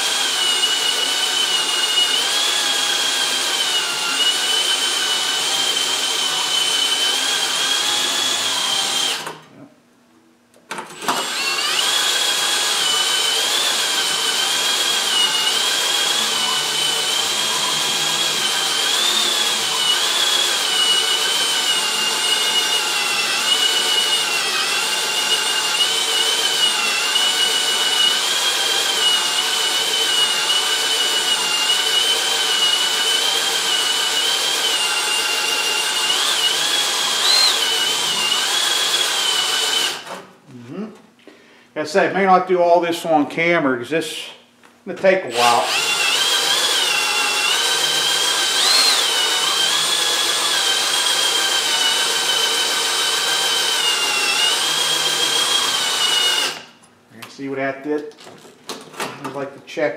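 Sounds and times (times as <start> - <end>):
hand drill whining: 0.0 - 9.4, 10.9 - 40.2, 45.3 - 56.8.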